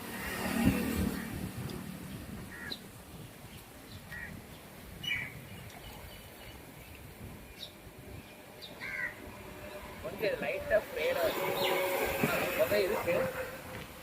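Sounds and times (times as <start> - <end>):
faint outdoor background noise: 0.0 - 14.0.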